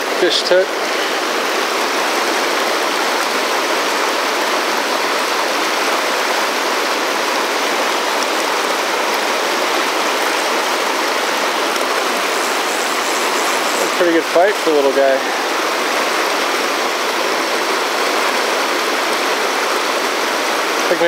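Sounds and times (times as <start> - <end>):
river rushing over boulders: 0.0 - 21.0.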